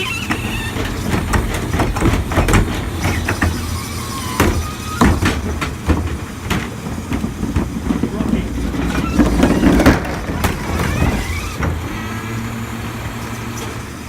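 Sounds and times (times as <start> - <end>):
sharp metallic clanks and knocks: 0.0 - 12.2
garbage truck diesel engine running: 0.0 - 14.0.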